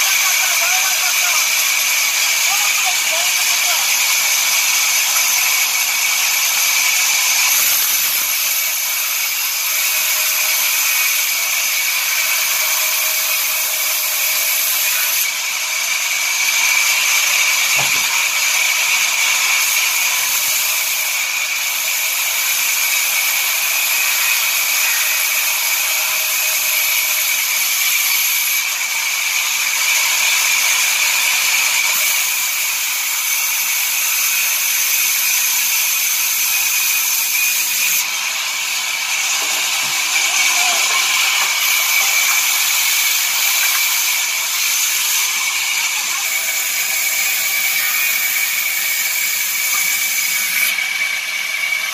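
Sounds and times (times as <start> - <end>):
saw whining through wood: 0.0 - 51.9.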